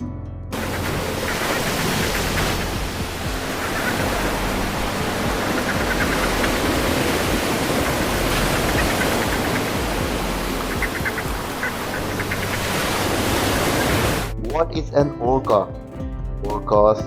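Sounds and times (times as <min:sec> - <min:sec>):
rushing water: 0:00.5 - 0:14.6.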